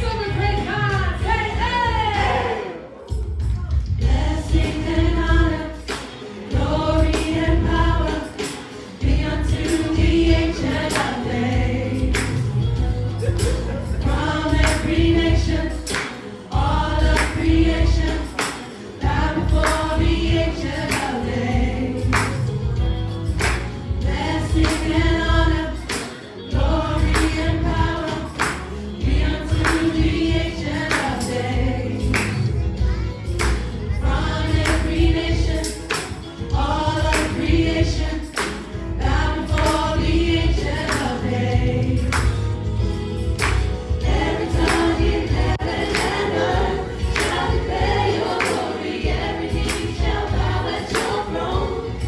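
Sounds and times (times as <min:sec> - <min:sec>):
bass and percussion: 0:00.0 - 0:52.0
gospel choir singing: 0:00.0 - 0:52.0.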